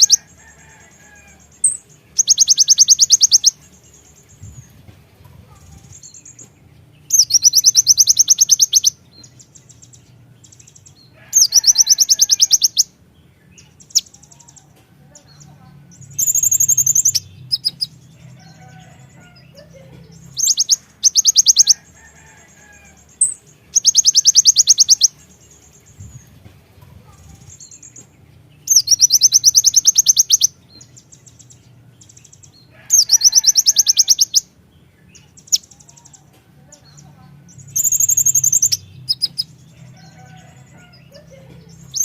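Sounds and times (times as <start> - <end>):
bird singing rapid rattling trills: 0.0 - 42.0.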